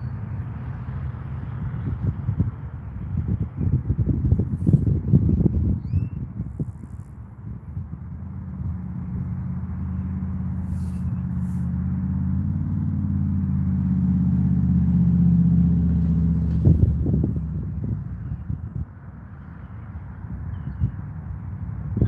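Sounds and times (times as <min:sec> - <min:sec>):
wind gusts on microphone: 0:00.0 - 0:13.4, 0:15.0 - 0:22.0
truck engine drone: 0:00.0 - 0:22.0.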